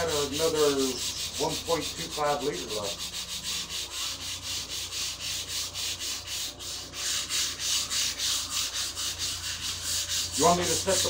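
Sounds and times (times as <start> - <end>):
hand sanding strokes: 0.0 - 11.0.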